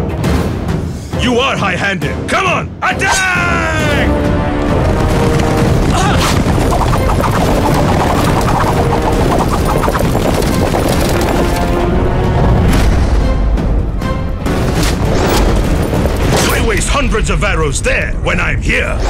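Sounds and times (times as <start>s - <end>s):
dramatic battle music: 0.0s - 19.0s.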